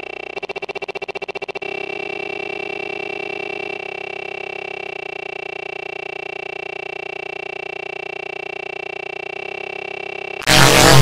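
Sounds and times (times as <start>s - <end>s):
stutter-looped buzzing drone: 0.0s - 11.0s.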